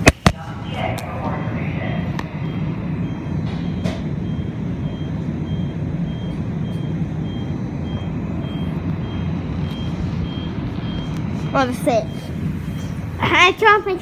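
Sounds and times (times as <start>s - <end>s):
subway car rumbling: 0.0s - 14.0s.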